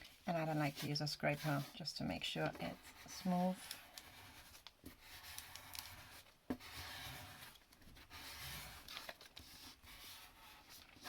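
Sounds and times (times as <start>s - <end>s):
scraper rubbing over paper: 0.3s - 11.0s.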